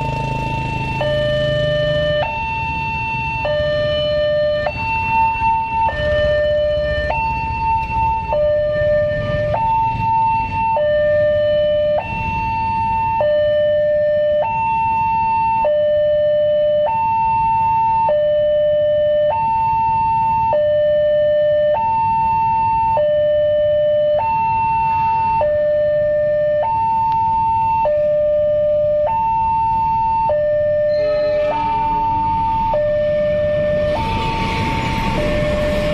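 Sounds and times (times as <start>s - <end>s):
level crossing two-tone alarm: 0.0s - 35.9s.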